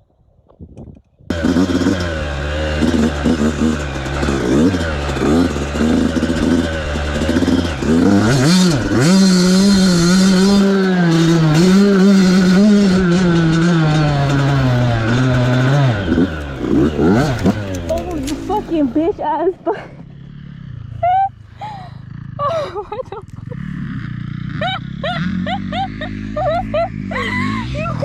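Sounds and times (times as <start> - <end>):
dirt bike engine revving: 1.3 - 28.0.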